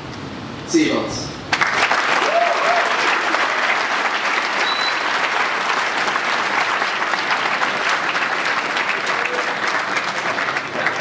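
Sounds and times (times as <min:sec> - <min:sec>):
large audience clapping: 0:01.5 - 0:11.0.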